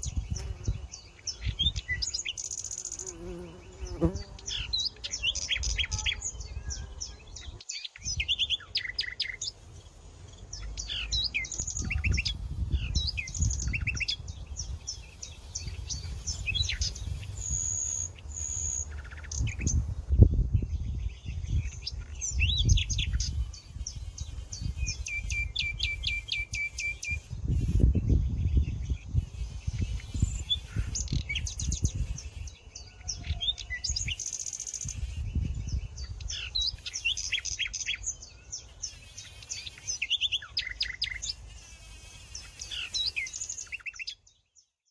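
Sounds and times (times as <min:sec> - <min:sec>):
birds chirping and singing: 0:00.0 - 0:44.8.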